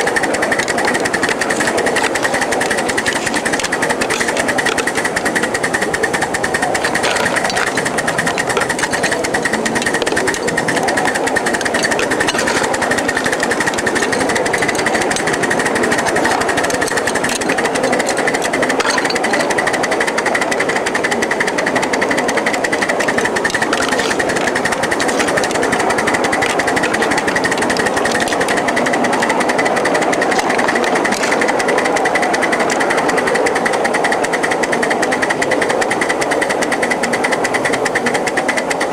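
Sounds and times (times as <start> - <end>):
miniature train wheels clattering: 0.0 - 38.9.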